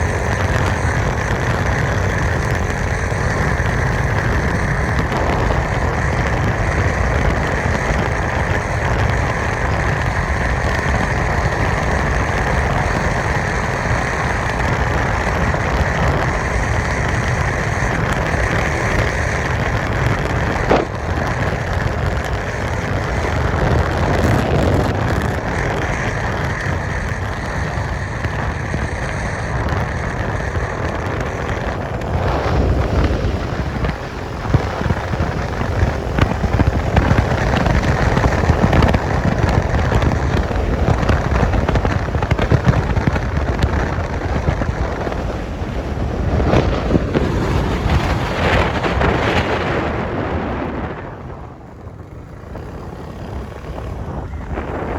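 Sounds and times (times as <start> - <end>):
scooter engine hum: 0.0 - 54.9
wind buffeting microphone: 0.0 - 54.9.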